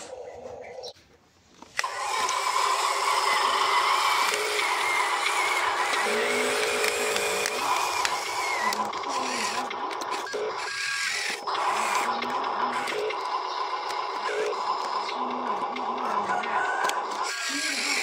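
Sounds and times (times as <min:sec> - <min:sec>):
toy truck electric motor whining: 0:01.6 - 0:18.0.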